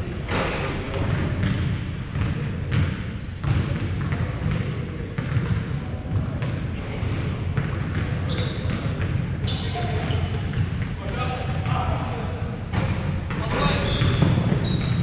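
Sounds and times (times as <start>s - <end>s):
basketballs bouncing on wooden floor: 0.3s - 11.8s, 12.7s - 15.0s.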